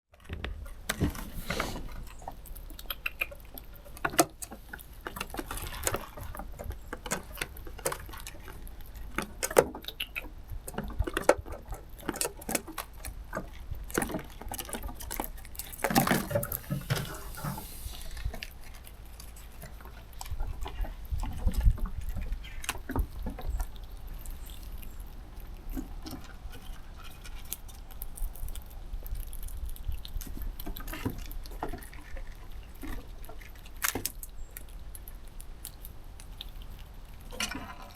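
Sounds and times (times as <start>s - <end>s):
squirrels crunching food: 0.1s - 37.9s.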